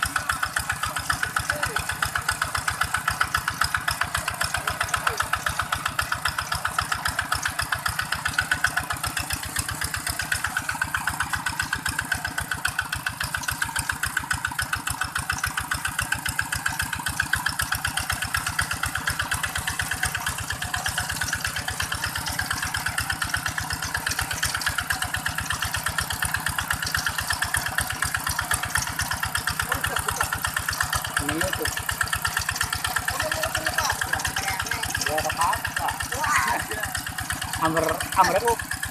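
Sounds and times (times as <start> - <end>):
diesel tractor engine chugging: 0.0 - 38.9.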